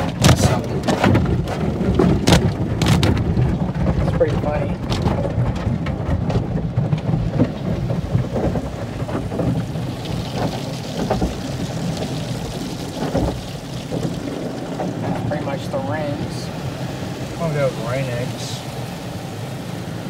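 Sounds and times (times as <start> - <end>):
car wash water spray on car: 0.0 - 20.0
low rumble: 0.0 - 20.0.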